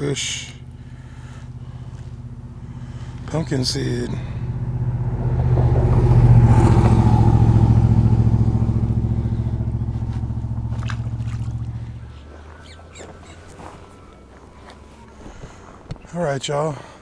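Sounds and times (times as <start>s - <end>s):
vehicle engine passing by: 0.0s - 15.8s.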